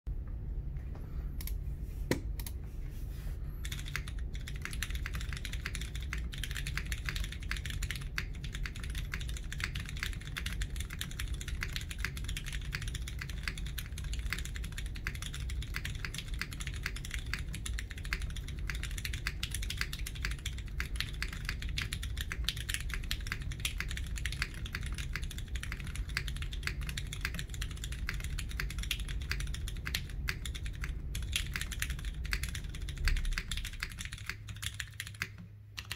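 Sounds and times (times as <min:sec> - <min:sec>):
typing on mechanical keyboard: 0:03.6 - 0:35.9.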